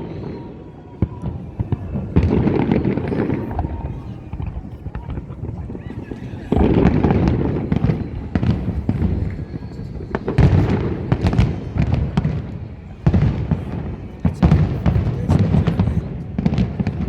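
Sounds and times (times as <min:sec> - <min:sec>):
fireworks bangs and booms: 0:00.0 - 0:17.0.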